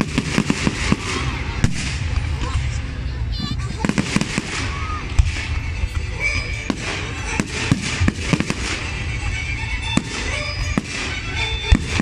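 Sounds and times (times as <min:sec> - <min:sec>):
fireworks bangs: 0:00.0 - 0:02.4, 0:03.5 - 0:12.0.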